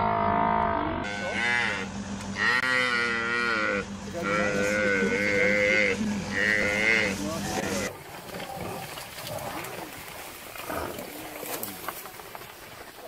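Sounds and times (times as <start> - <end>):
large animal calling: 0.0 - 12.0.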